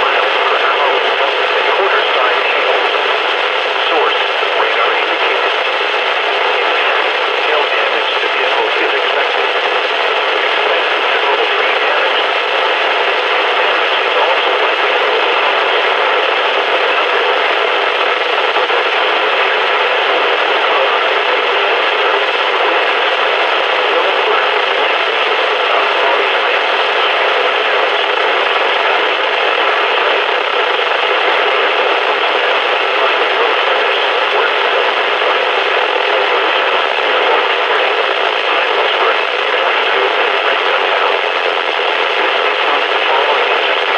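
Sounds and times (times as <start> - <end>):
radio static hissing: 0.0 - 43.9.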